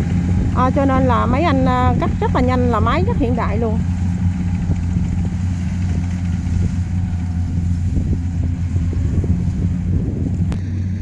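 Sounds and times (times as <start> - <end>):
combine harvester engine droning: 0.0 - 11.0.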